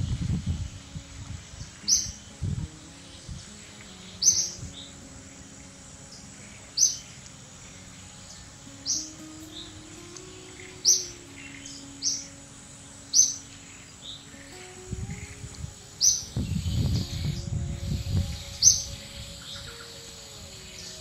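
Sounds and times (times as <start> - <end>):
bird chirping: 1.4 - 21.0.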